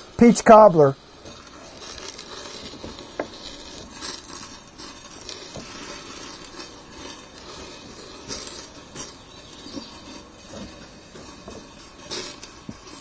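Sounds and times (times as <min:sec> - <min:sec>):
spoon scraping metal pan: 0:01.1 - 0:13.0
spoon stirring thick batter: 0:01.1 - 0:13.0.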